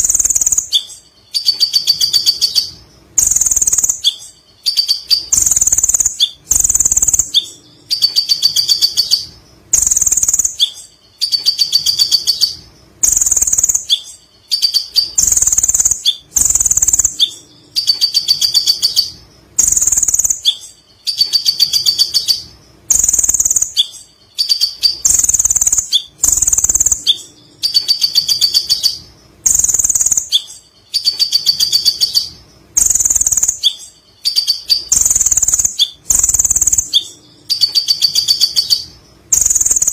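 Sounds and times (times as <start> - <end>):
sunbird chattering song: 0.0 - 39.9.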